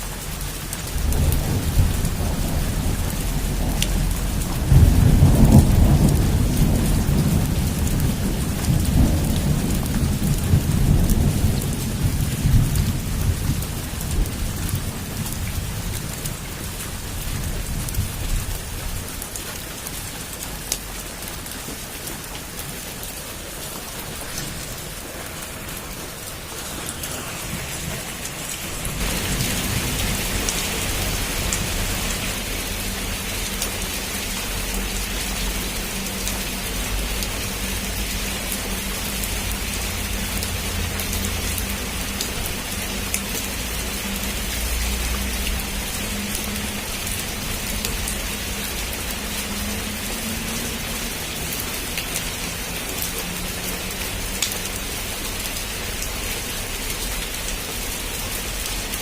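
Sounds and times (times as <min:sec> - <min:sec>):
heavy rain on a rooftop: 0:00.0 - 0:59.0
thunder rumbling: 0:00.4 - 0:19.4, 0:22.2 - 0:50.9.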